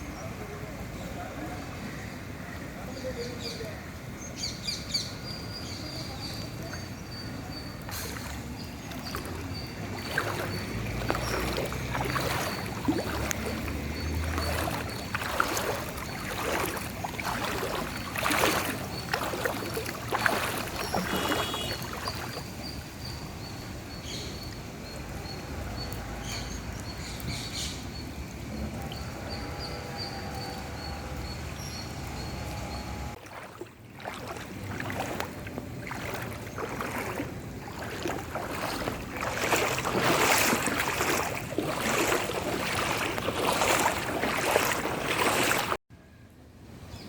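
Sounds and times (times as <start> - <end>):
water splashing and sloshing: 5.2 - 45.8.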